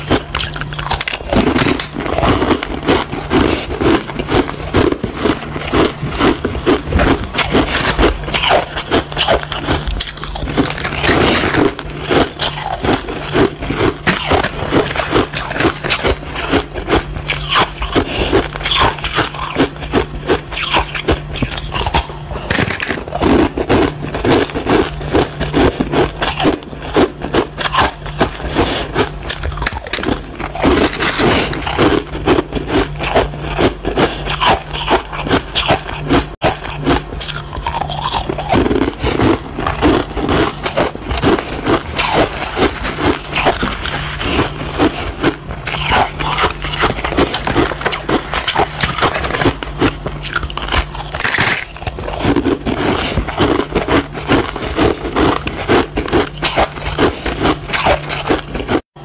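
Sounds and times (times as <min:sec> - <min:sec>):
ice crunching while chewed: 0:00.0 - 0:59.0.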